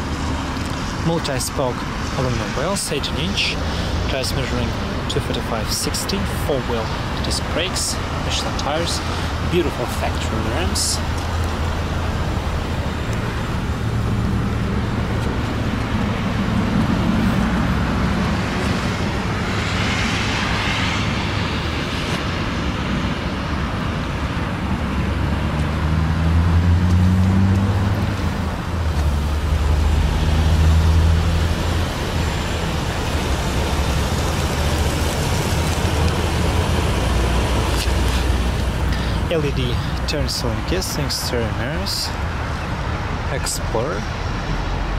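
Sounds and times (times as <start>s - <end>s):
road traffic noise: 0.0s - 44.9s
vehicle engines droning: 0.0s - 44.9s.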